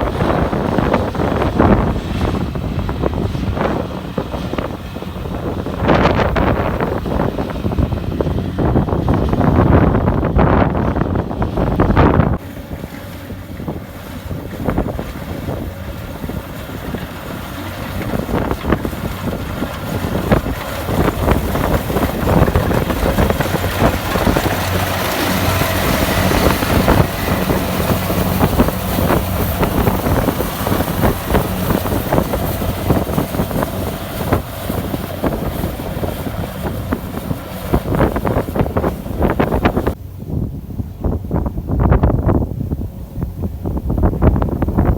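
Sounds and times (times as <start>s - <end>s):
harvester machinery noise: 0.0s - 40.1s
diesel engine hum: 0.0s - 44.9s.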